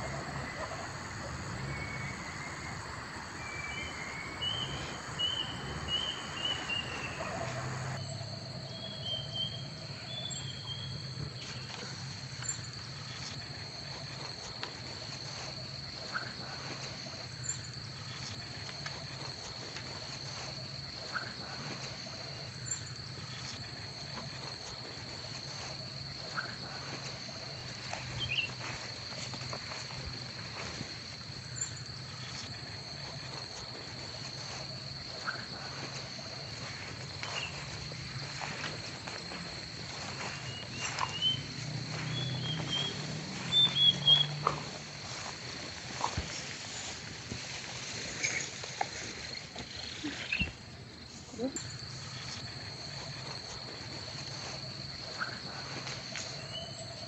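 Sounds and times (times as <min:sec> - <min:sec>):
insect trill: 0:00.0 - 0:57.0.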